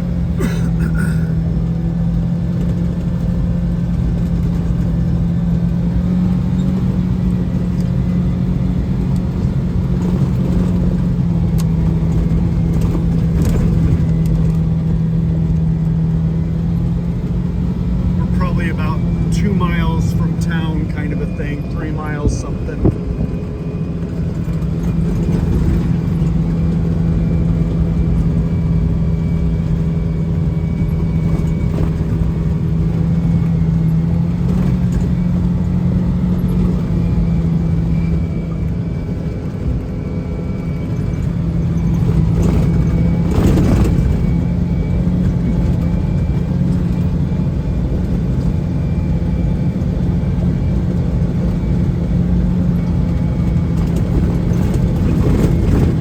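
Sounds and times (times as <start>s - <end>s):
vehicle engine running inside cab: 0.0s - 56.0s.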